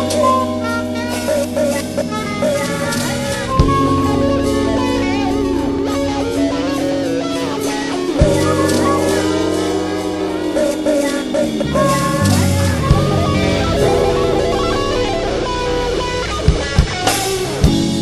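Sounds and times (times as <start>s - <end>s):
electric guitar lines: 0.0s - 18.0s
funk jazz band playing: 0.0s - 18.0s.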